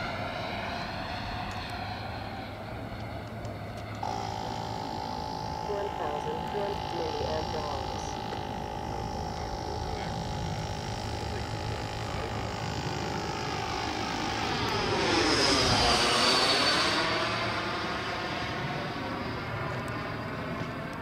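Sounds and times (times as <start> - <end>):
model jet fan whine: 0.0 - 21.0.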